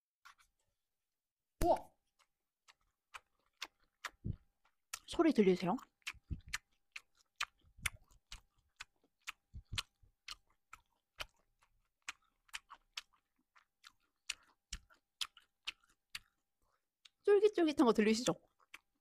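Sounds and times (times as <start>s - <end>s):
wet chewing smacks: 2.0s - 17.2s, 18.4s - 19.0s.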